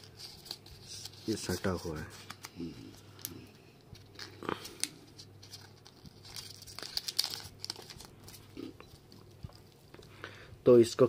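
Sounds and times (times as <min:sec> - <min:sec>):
plastic film crinkling: 0:00.0 - 0:10.1.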